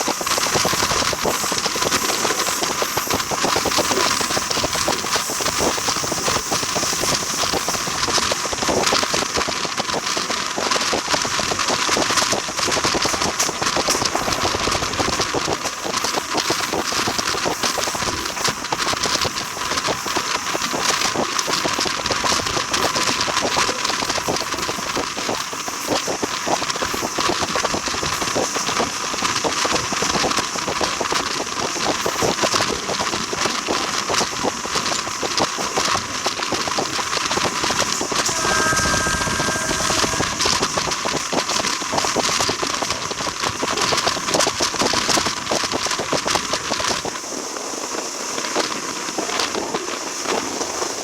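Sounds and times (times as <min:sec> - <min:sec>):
train running on rails: 0:00.0 - 0:51.0.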